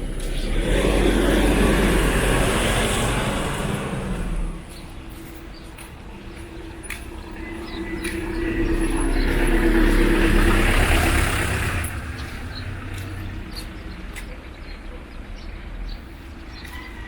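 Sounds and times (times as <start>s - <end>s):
vehicle passing by: 0.0s - 14.2s.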